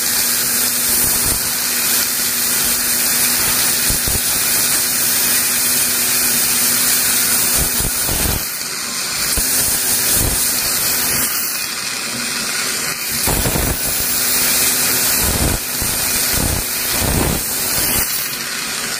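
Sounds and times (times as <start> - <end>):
dental air polisher hissing: 0.0 - 18.9.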